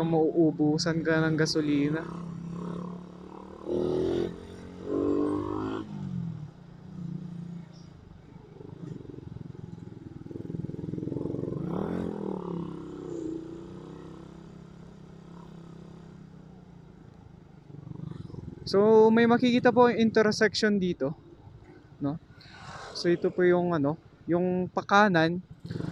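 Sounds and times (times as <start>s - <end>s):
motorcycle engine running: 0.0s - 22.3s, 25.4s - 25.9s.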